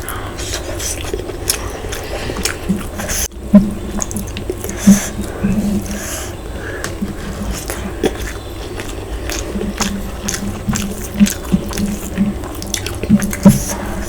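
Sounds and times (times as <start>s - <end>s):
mouth chewing food: 0.0s - 14.0s
wet mouth clicks and crunches: 0.0s - 14.0s.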